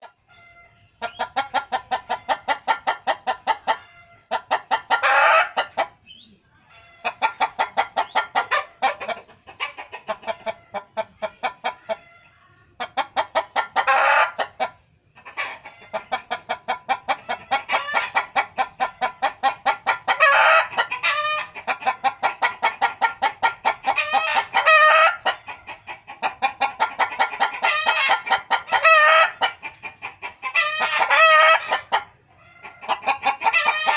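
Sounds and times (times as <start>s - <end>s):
chicken drawn-out call: 0.0s - 6.0s, 6.7s - 33.9s
chickens clucking: 0.0s - 33.9s.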